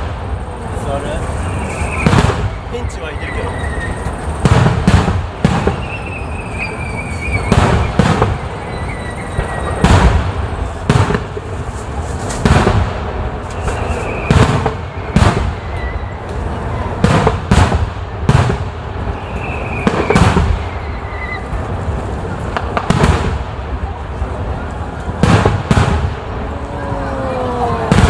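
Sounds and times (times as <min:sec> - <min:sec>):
fireworks booming: 0:00.0 - 0:28.0
fireworks whistling down: 0:00.0 - 0:28.0.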